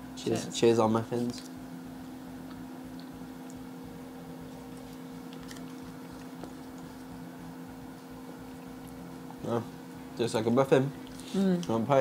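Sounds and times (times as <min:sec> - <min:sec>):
air fryer humming: 0:00.0 - 0:12.0.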